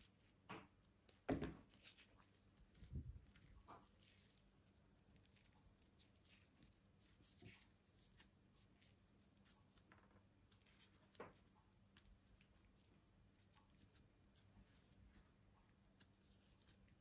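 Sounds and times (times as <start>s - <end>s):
peeling mushroom skin: 0.9s - 17.0s.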